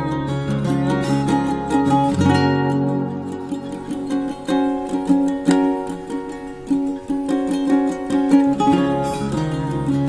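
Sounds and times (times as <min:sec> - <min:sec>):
plucked string instrument music: 0:00.0 - 0:10.0.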